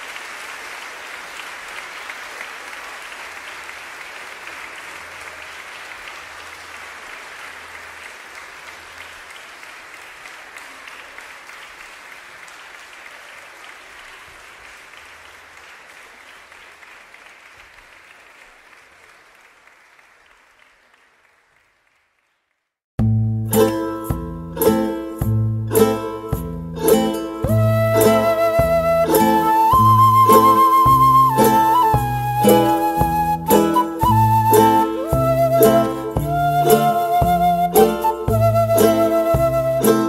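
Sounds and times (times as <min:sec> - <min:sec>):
audience applauding: 0:00.0 - 0:22.5, 0:27.2 - 0:40.0.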